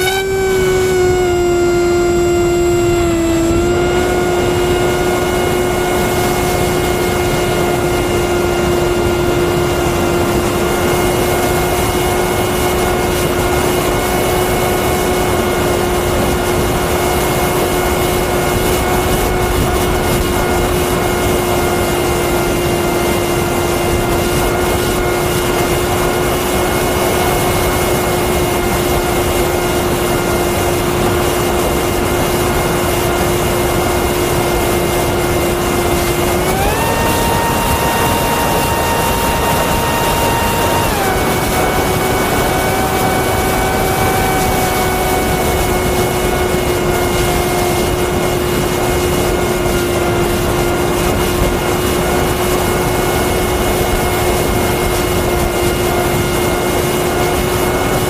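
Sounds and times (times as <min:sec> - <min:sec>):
motor and propeller whine: 0:00.0 - 0:58.0.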